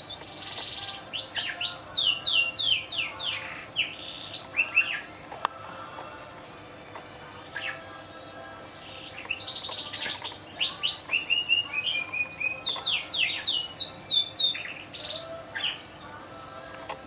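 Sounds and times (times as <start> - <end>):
canary singing: 0.0 - 17.0
faint steady hum: 0.0 - 17.0.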